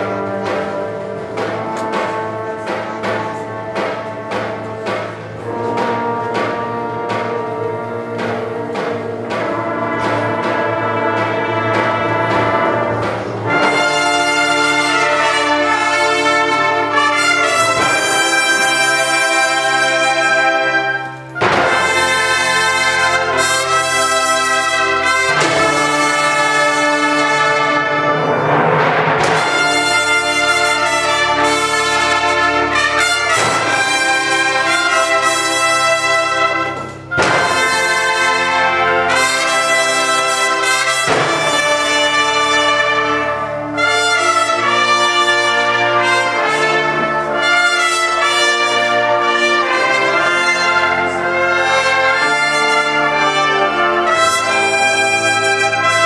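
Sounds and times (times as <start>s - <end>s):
wind band playing chords: 0.0s - 56.0s.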